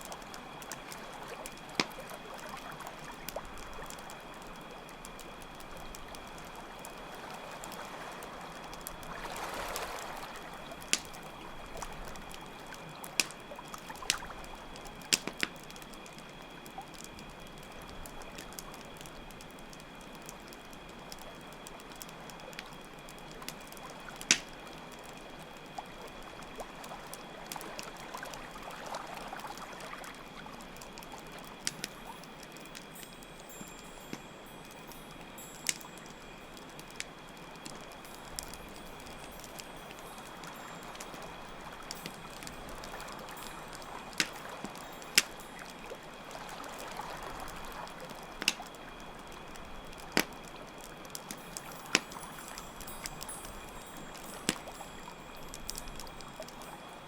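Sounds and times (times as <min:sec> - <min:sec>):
campfire crackling: 0:00.0 - 0:57.0
crickets chirping: 0:00.0 - 0:57.0
trickling stream: 0:00.0 - 0:57.0.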